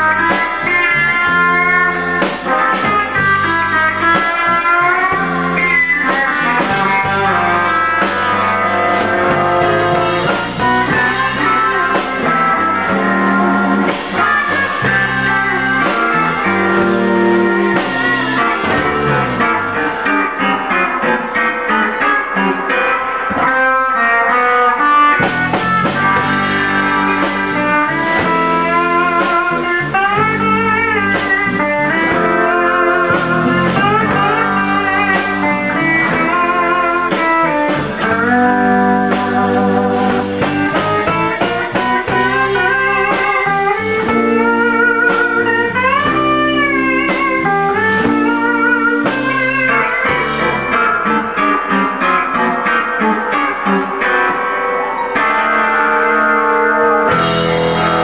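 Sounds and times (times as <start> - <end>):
bass guitar: 0.0 - 58.0
drums: 0.0 - 58.0
electric guitar: 0.0 - 58.0
pedal steel guitar: 0.0 - 58.0.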